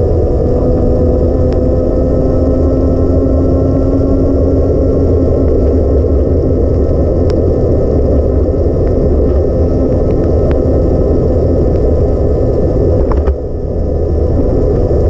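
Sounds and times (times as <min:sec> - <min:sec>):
bicycle tyres on wet road: 0:00.0 - 0:15.0
wind buffeting microphone: 0:00.0 - 0:15.0.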